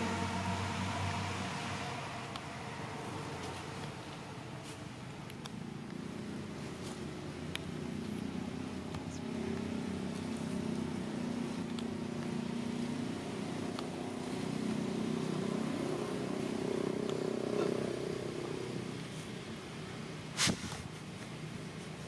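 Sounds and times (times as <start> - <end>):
engine droning: 0.0 - 20.4.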